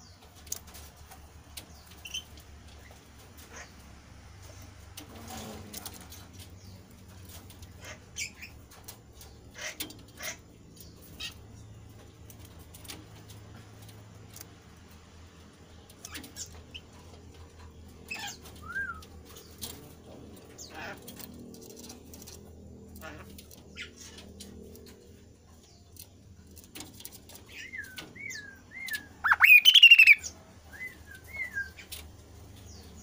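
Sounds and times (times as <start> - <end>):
low steady hum: 0.0 - 33.0
bird chirps and clicks: 5.7 - 33.0.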